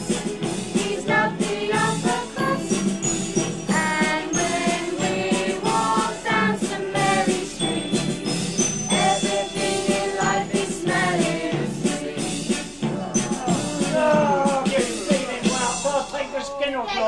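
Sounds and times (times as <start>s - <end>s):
group singing together: 0.0s - 15.9s
instrumental accompaniment: 0.0s - 17.0s.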